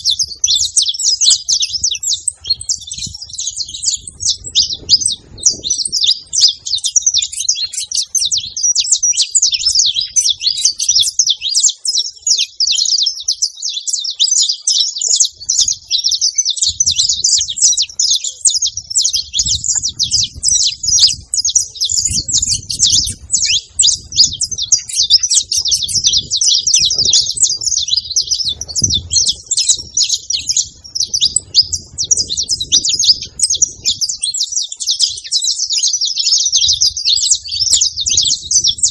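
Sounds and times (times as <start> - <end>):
finch chirping rapidly: 0.0 - 38.9.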